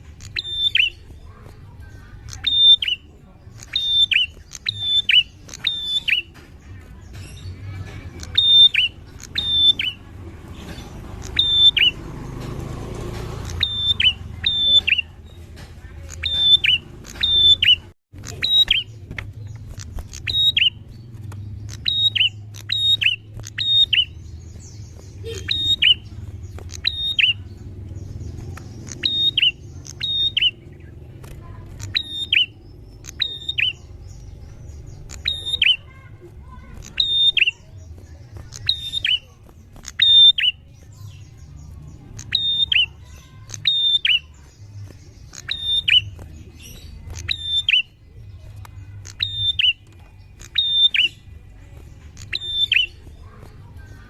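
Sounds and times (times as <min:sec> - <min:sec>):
bird calling sharp notes: 0:00.0 - 0:06.4, 0:08.2 - 0:10.1, 0:11.2 - 0:12.1, 0:13.4 - 0:15.3, 0:16.0 - 0:31.0, 0:31.7 - 0:41.3, 0:42.1 - 0:44.5, 0:45.2 - 0:48.1, 0:49.0 - 0:51.3, 0:52.2 - 0:54.0.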